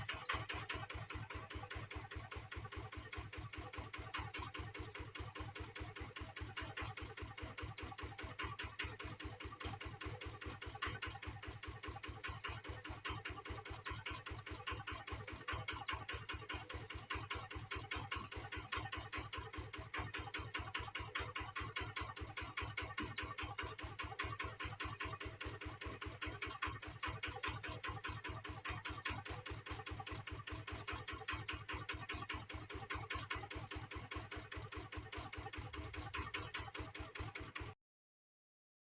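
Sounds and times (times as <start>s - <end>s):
engine chugging steadily: 0.0s - 37.8s.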